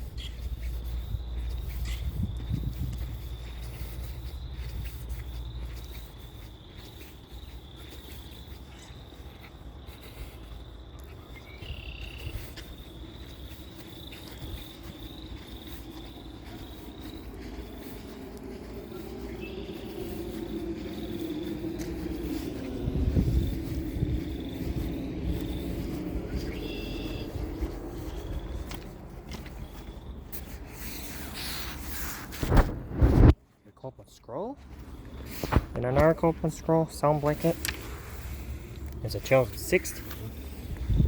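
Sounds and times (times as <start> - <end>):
low engine hum: 0.0 - 33.4, 34.6 - 41.0
crickets chirping: 0.0 - 41.0.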